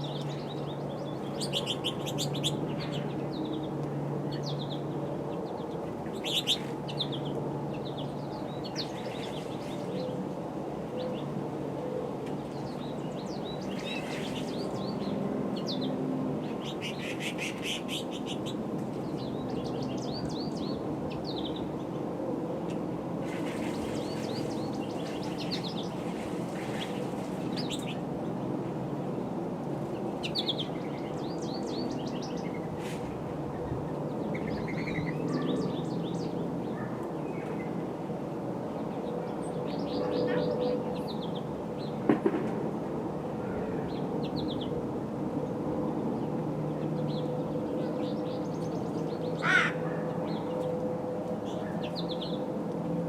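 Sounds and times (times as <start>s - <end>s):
songbirds chirping: 0.0s - 42.0s, 45.4s - 52.8s.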